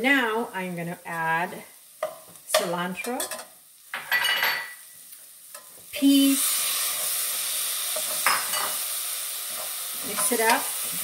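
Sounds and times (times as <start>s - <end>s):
loud steady sizzle: 0.0s - 11.0s.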